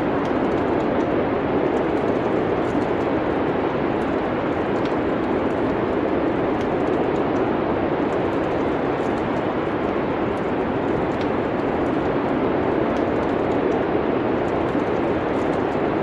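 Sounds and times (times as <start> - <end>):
rushing storm wind: 0.0 - 16.0
wood fire crackling: 0.0 - 16.0.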